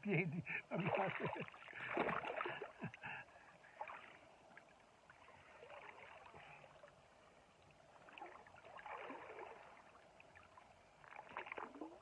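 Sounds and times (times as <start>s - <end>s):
faint river water rushing: 0.0s - 12.0s.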